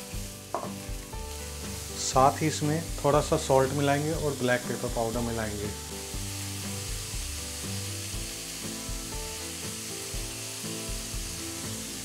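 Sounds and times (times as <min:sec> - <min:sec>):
background music with held notes: 0:00.0 - 0:12.0
mushrooms sizzling in a wok: 0:00.0 - 0:12.0.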